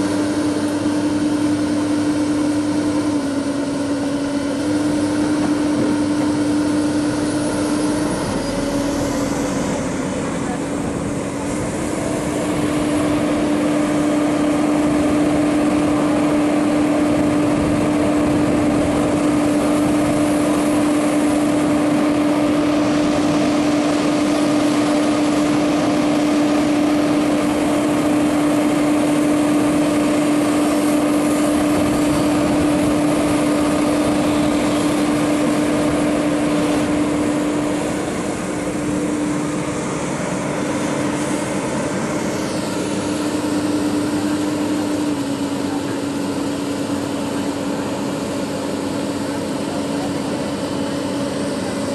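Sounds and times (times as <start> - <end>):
excavator engine droning: 0.0 - 51.9.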